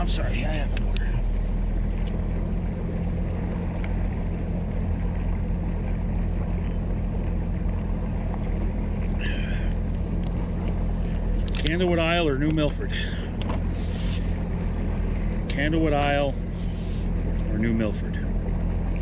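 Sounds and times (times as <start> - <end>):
outboard motor running: 0.0 - 19.0
water noise: 0.0 - 19.0
wind: 0.0 - 19.0.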